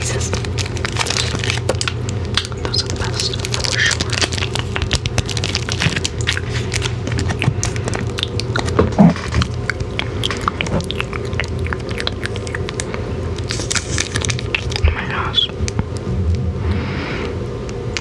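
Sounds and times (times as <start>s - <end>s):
plastic wrapper crinkling: 0.0s - 15.8s.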